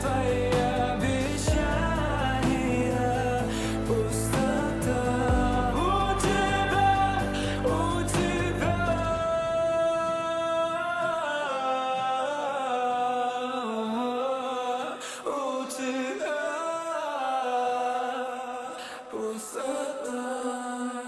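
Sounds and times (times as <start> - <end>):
solo voice singing slow melody: 0.0 - 21.0.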